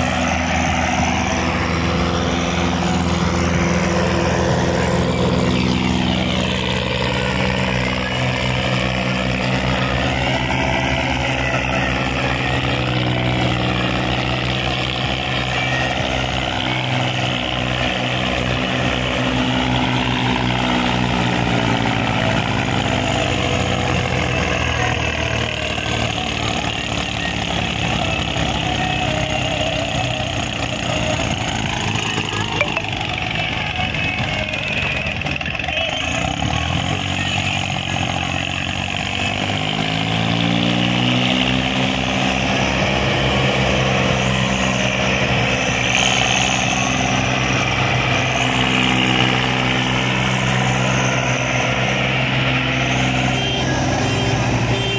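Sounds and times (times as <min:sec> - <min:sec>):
diesel tractor engines under load: 0:00.0 - 0:54.9.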